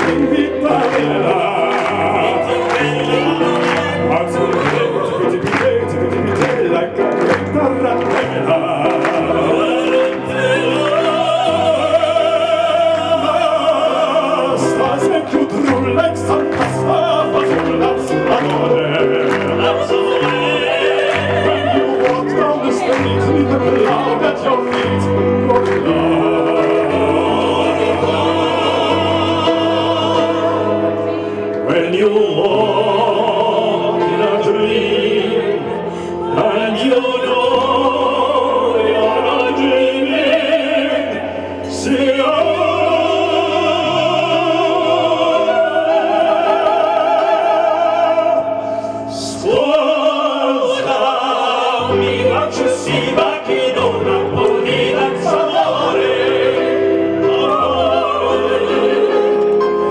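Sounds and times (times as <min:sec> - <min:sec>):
man and woman singing opera: 0:00.0 - 0:59.9
musical accompaniment: 0:00.0 - 0:59.9.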